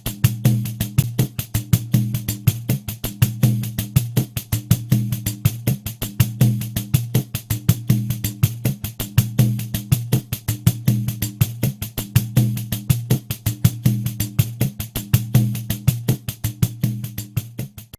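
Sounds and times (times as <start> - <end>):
deep open drum tone: 0.0 - 17.8.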